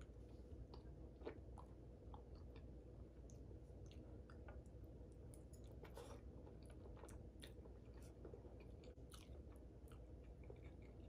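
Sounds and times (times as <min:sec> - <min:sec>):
faint chewing: 0:00.0 - 0:11.0.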